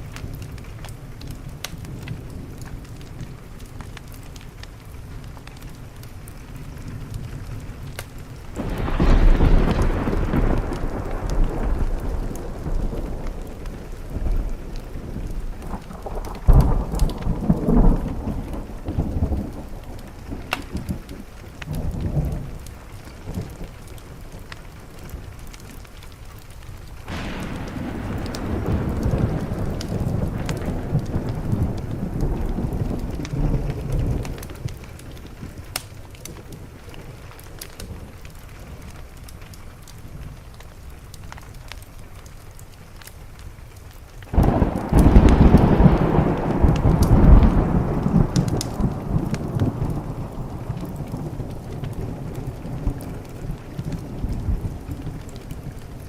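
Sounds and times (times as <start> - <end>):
thunder rumbling: 0.0 - 40.9, 44.3 - 56.0
rain pattering on a window: 0.0 - 56.0.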